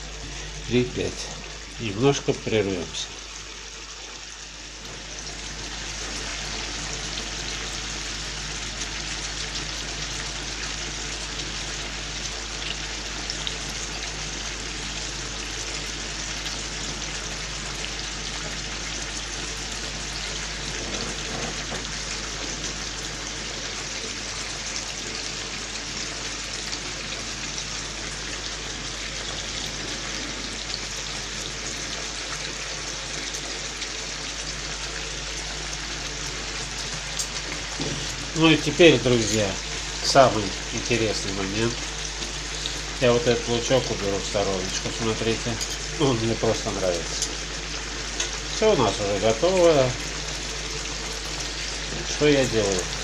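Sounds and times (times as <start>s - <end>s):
meat sizzling in a frying pan: 0.0s - 53.0s.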